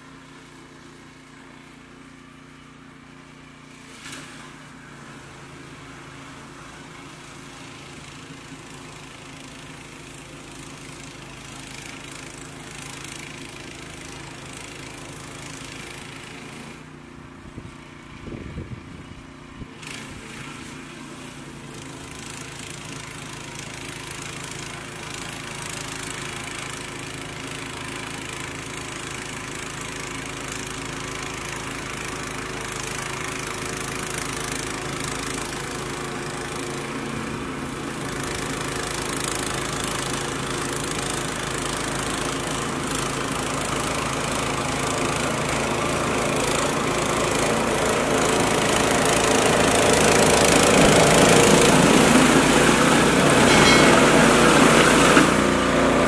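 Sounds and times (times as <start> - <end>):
snow blower engine running: 0.0 - 56.0.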